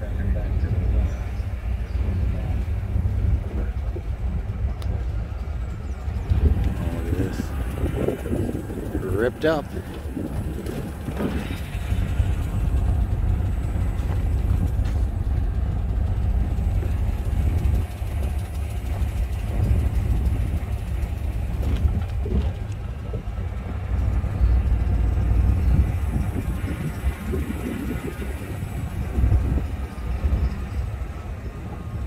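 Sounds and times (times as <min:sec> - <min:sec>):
vehicle engine and tyres rumbling: 0:00.0 - 0:32.0.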